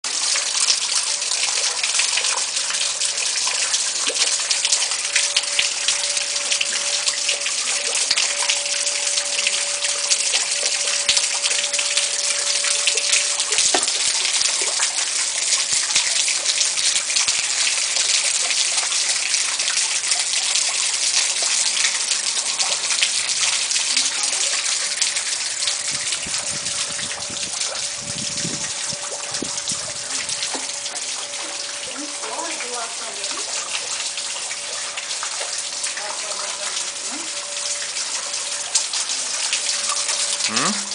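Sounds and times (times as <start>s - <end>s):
water rushing and splashing: 0.1s - 40.9s.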